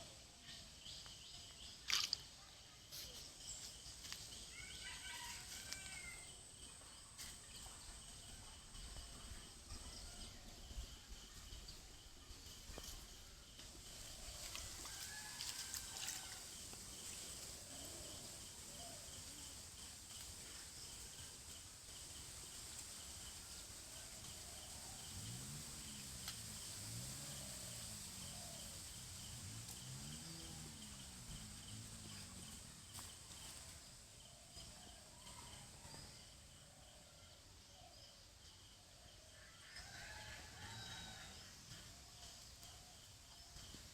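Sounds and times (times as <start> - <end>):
insect hum: 0.0 - 43.9.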